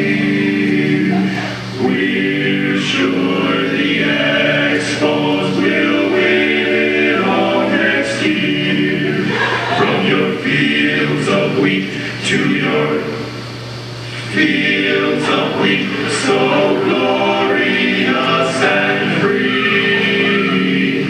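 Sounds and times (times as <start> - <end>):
a cappella group singing harmony: 0.0 - 13.4, 14.1 - 21.0.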